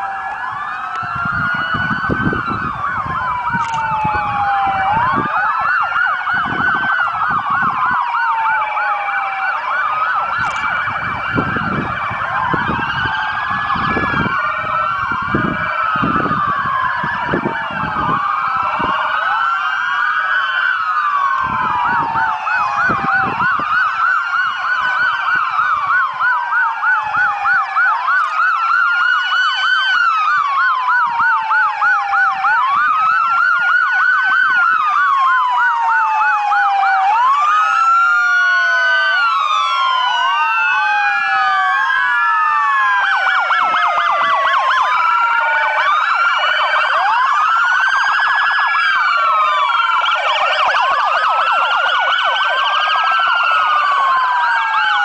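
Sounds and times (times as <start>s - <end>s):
police sirens wailing and yelping: 0.0s - 55.0s.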